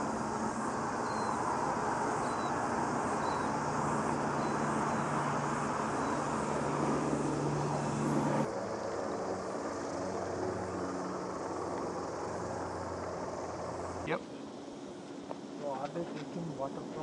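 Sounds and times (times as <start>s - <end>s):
aircraft engines droning: 0.0s - 17.0s
light plane passing overhead: 0.0s - 17.0s.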